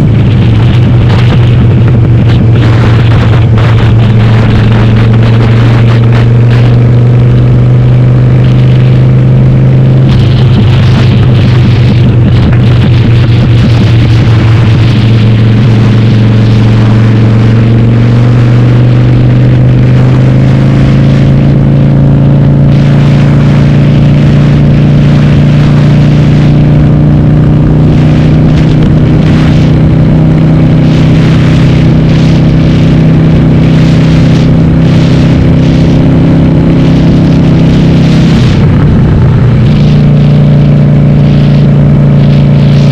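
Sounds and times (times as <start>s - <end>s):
motorcycle engine under way: 0.0s - 42.9s.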